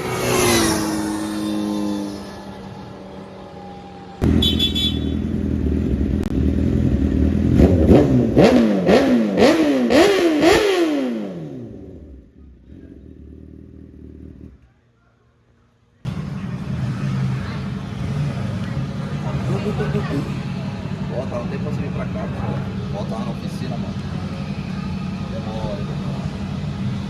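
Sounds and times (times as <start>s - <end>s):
motorcycle engine revving: 0.0s - 14.7s, 16.1s - 27.0s.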